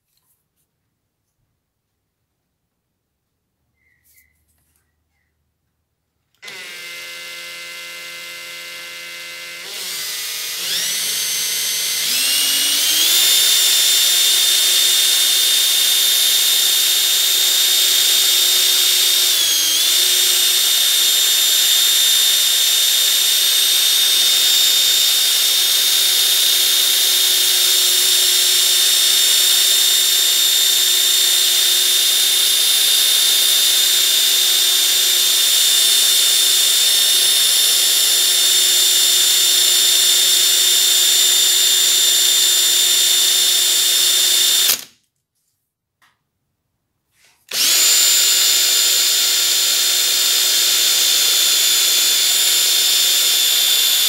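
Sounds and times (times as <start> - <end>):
cordless drill motor whine: 6.4 - 44.9, 47.5 - 54.0.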